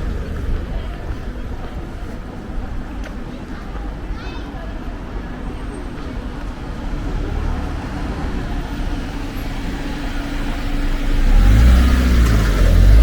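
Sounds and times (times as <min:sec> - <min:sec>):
vehicle engine rumbling: 0:00.0 - 0:04.0, 0:05.0 - 0:13.0.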